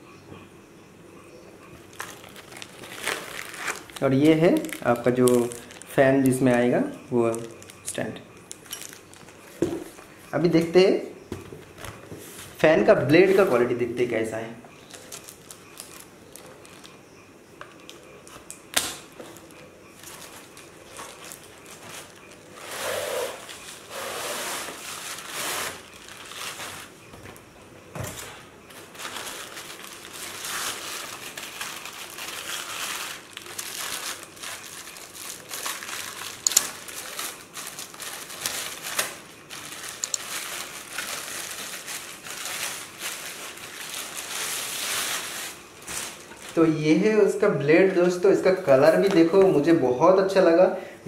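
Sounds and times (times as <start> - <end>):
plastic wrapping crinkling: 1.7 - 10.8, 11.6 - 27.0, 28.2 - 47.4, 48.0 - 49.8.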